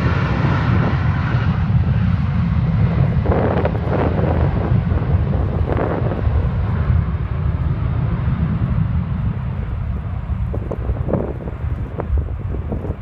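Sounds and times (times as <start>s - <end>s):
distant jet engines rumbling: 0.0s - 13.0s
wind buffeting microphone: 0.0s - 13.0s.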